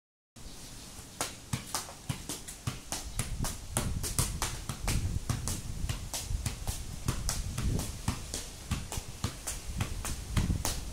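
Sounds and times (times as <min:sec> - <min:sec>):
football kicked with feet thudding: 0:01.2 - 0:10.9.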